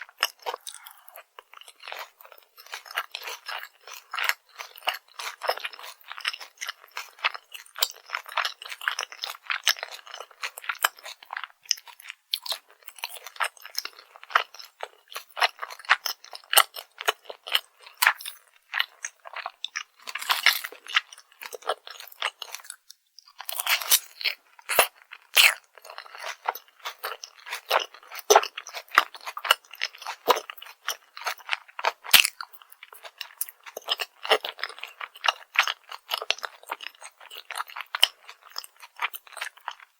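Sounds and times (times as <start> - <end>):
crunching and chewing fried food: 0.0 - 39.9.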